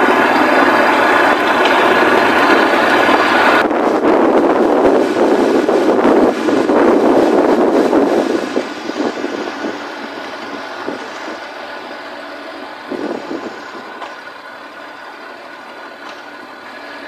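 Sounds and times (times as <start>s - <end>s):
truck engine: 0.0s - 17.0s
tyre and road noise: 0.0s - 17.0s.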